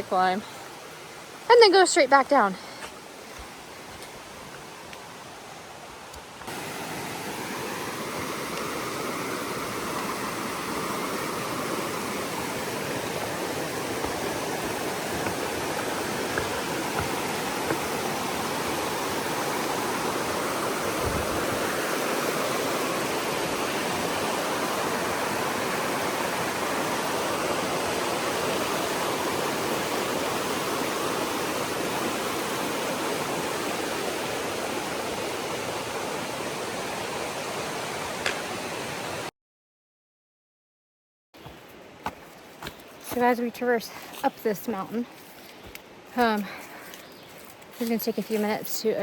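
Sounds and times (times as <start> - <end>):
flowing water rushing: 0.0 - 39.3.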